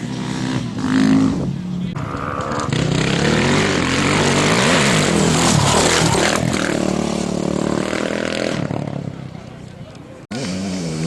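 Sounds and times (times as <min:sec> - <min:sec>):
racing motorcycle engines passing: 0:00.0 - 0:11.0.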